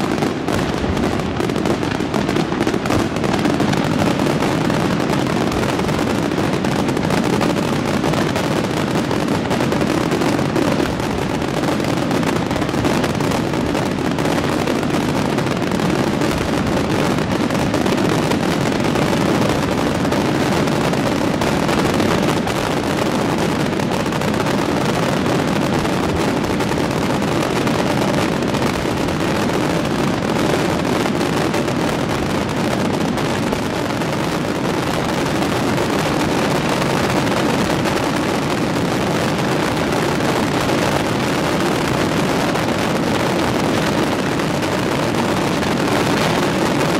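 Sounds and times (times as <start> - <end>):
firework crackle: 0.0 - 46.9.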